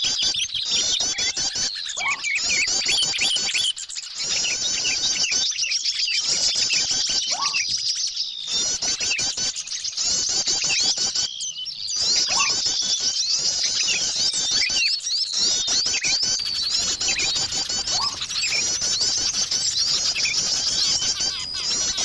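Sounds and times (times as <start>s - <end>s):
songbirds chirping in chorus: 0.0s - 22.0s.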